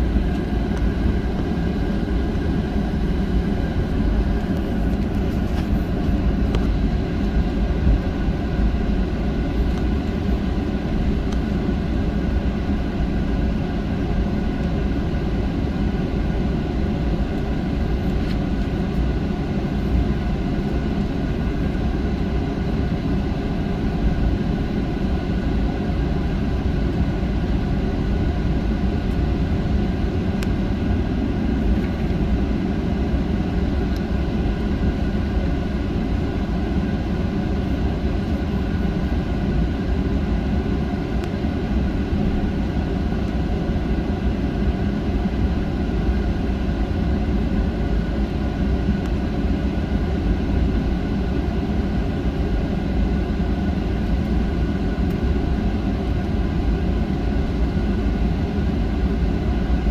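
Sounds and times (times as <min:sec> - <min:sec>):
aircraft cabin rumble: 0:00.0 - 0:59.9
faint steady whining tones: 0:00.0 - 0:59.9.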